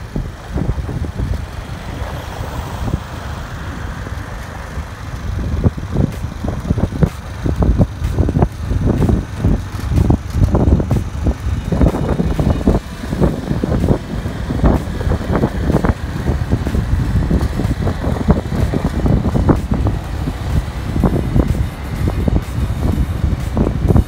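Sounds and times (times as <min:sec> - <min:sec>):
engine and road rumble: 0:00.0 - 0:24.0.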